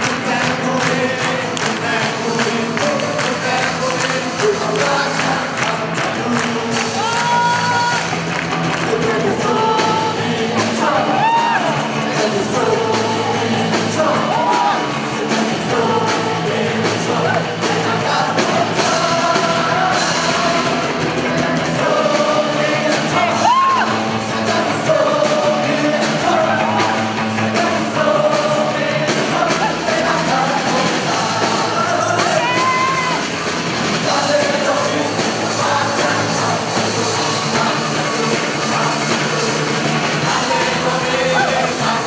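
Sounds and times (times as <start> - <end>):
person singing: 0.0 - 8.2, 8.8 - 42.0
live band playing: 0.0 - 42.0.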